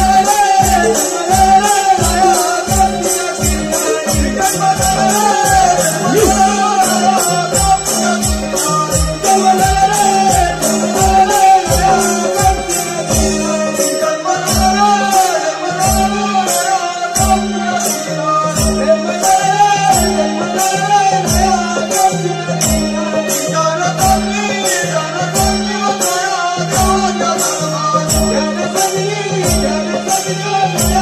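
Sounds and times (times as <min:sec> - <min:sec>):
group singing: 0:00.0 - 0:31.0
hand cymbals striking a beat: 0:00.0 - 0:31.0.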